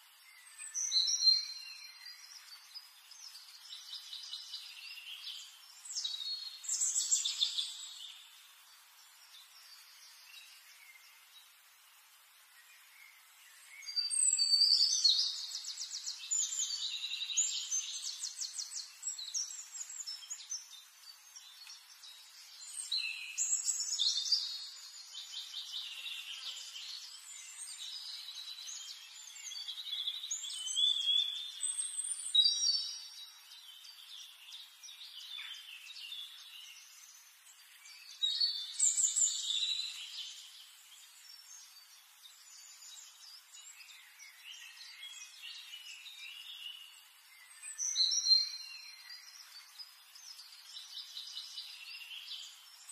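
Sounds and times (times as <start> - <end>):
finches chirping and trilling: 0.3 - 11.6, 12.4 - 52.9.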